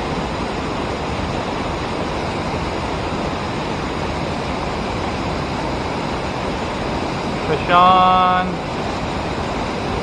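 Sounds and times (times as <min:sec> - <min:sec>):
river water rushing over a dam: 0:00.0 - 0:10.0.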